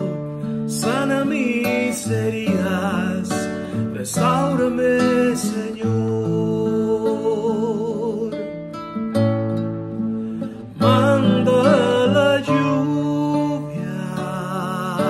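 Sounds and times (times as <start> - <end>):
man singing with vibrato: 0.0 - 8.8, 10.2 - 15.0
classical guitar strumming: 0.0 - 15.0.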